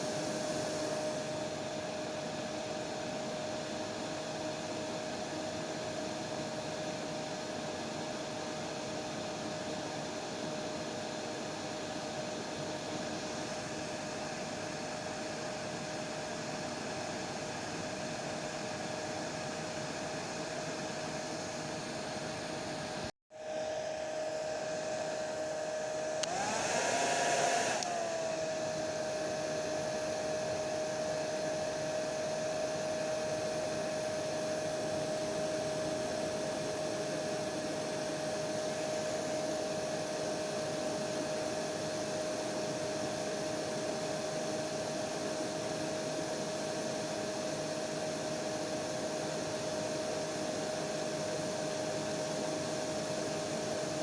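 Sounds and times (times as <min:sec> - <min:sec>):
hair dryer blowing with whine: 0:00.0 - 0:54.0.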